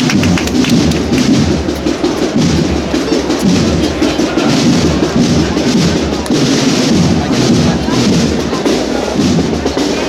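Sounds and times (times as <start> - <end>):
procession band music with drums: 0.0 - 10.0.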